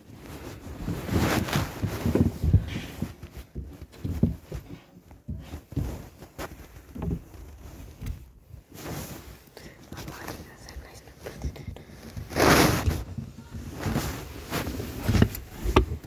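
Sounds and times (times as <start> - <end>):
clothing rustling against microphone: 0.0 - 16.0
muffled bumps and thuds: 0.1 - 16.0.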